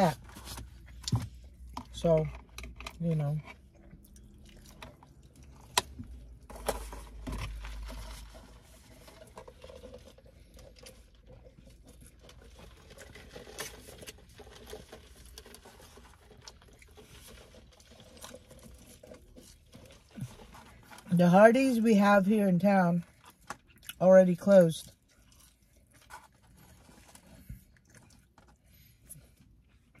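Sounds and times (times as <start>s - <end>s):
clicks and rustles of food wrappers: 0.0s - 21.2s, 23.0s - 30.0s.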